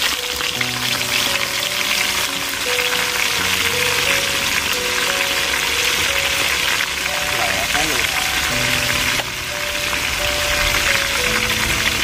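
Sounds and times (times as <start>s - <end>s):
background music: 0.0s - 12.0s
fish sizzling in oil: 0.0s - 12.0s.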